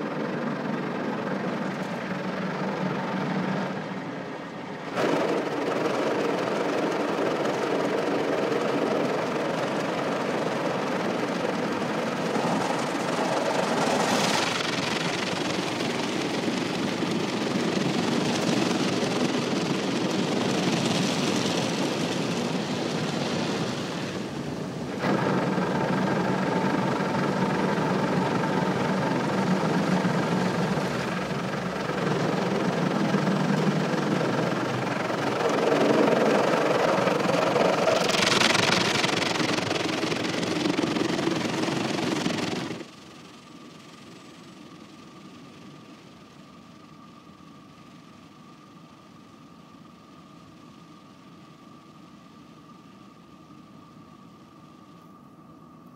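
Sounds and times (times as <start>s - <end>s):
car wash machinery hum: 0.0s - 55.9s.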